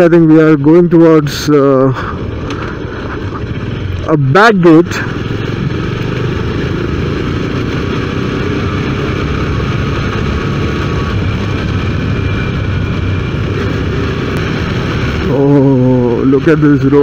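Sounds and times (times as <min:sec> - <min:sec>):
motorcycle engine rumble: 0:00.0 - 0:17.0.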